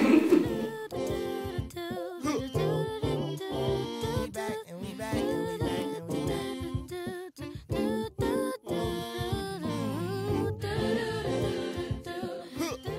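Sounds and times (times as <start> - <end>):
song with sung vocals: 0.0 - 12.9.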